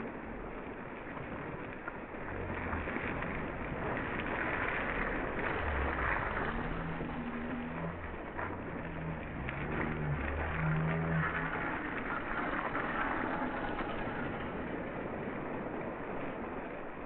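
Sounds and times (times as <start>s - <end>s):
bike tyres splashing through mud: 0.0s - 17.0s
low droning hum: 0.0s - 17.0s.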